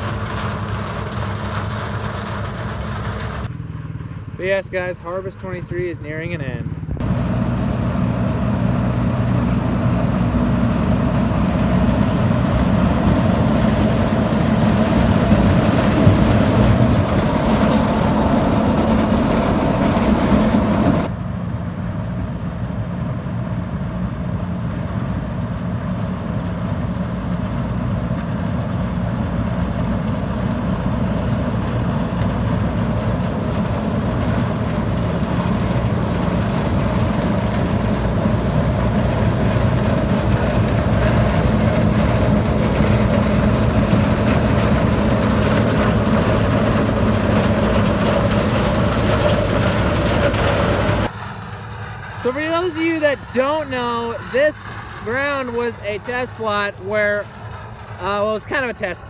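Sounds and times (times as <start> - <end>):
combine harvester machinery drone: 0.0 - 3.5, 6.9 - 21.1, 22.7 - 59.0.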